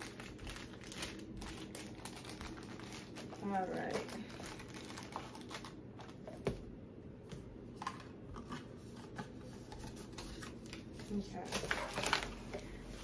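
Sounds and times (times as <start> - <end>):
cardboard and paper rustling: 0.0 - 6.6, 7.8 - 13.0.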